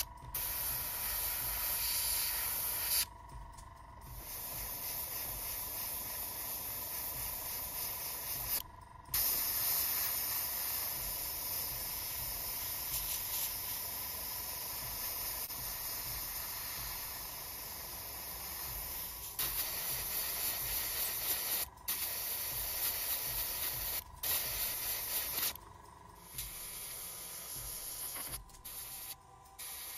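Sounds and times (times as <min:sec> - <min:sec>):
airbrush hissing: 0:00.0 - 0:03.1, 0:04.0 - 0:25.6, 0:26.2 - 0:29.9.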